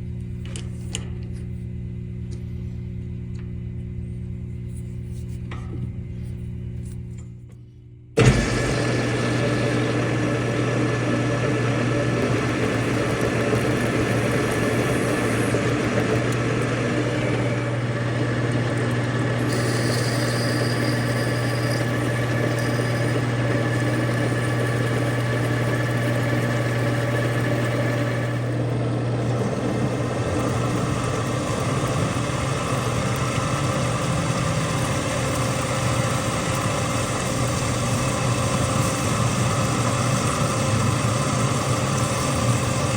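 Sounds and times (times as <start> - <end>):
machine tool humming: 8.2 - 42.9.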